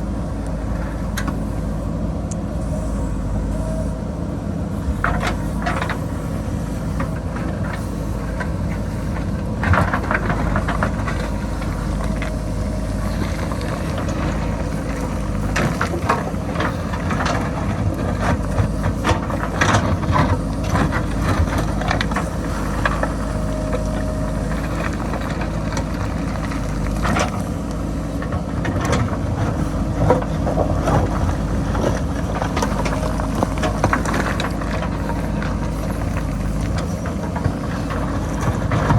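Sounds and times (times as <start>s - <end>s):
diesel engine running under load: 0.0s - 38.9s.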